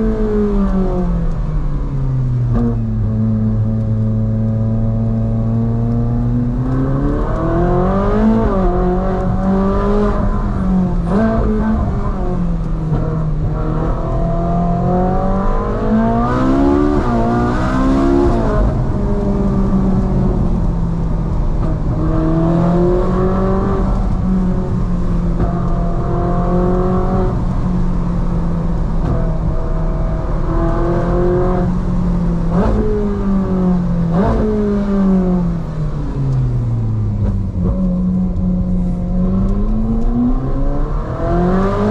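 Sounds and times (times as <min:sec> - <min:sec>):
sports car engine revving: 0:00.0 - 0:41.9.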